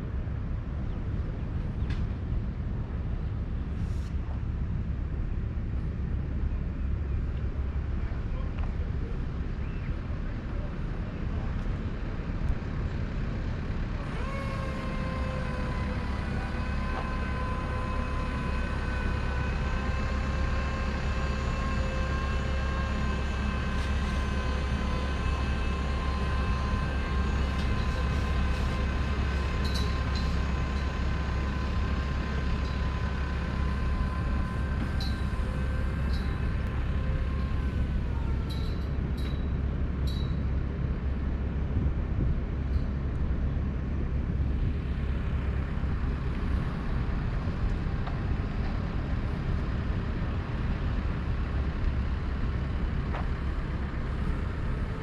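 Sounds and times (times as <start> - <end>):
vehicle running rumble: 0.0 - 55.0.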